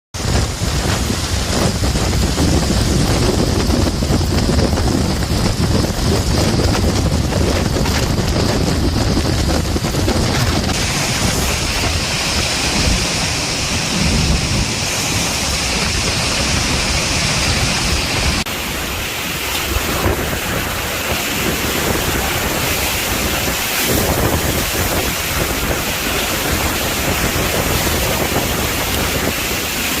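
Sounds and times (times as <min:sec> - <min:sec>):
wind buffeting microphone: 0:00.1 - 0:30.0
hurricane wind and rain: 0:00.2 - 0:30.0.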